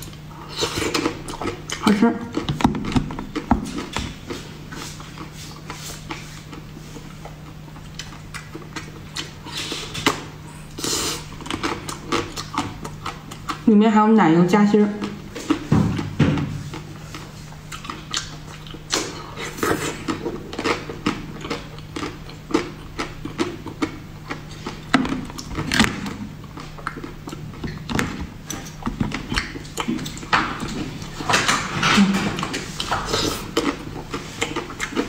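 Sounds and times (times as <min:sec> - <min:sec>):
wet chewing and slurping: 0:00.0 - 0:13.6, 0:15.0 - 0:35.0.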